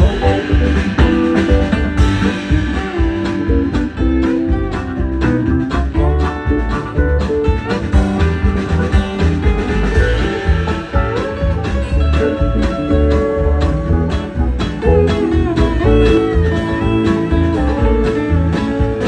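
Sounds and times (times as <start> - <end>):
banjo notes: 0.0 - 19.0
low bass pulse: 0.0 - 19.0
plucked guitar notes: 0.0 - 19.0.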